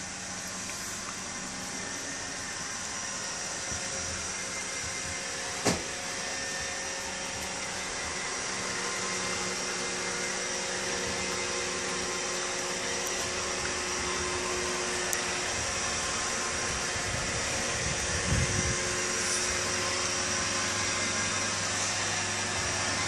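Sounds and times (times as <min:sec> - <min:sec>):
machine whirring hum: 0:00.0 - 0:23.0.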